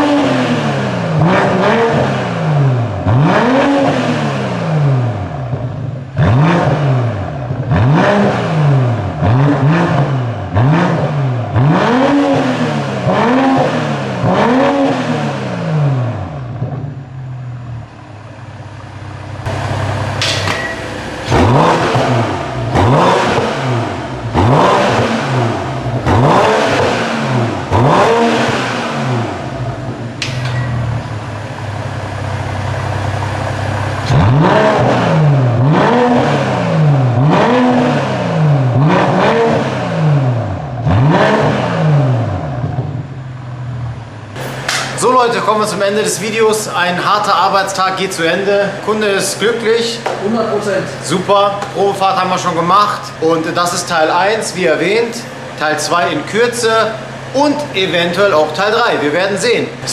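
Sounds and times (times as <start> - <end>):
car engine revving: 0.0 - 59.9
exhaust cracks: 0.0 - 59.9.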